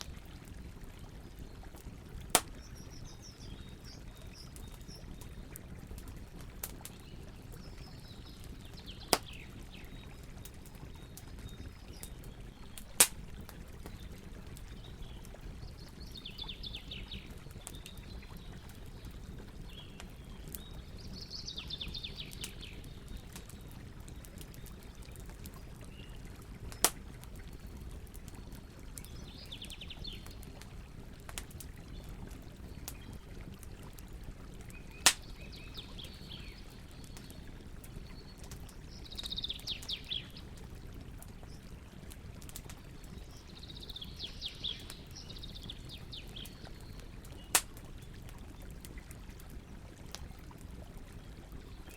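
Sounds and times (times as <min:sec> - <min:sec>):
campfire burning: 0:00.0 - 0:51.9.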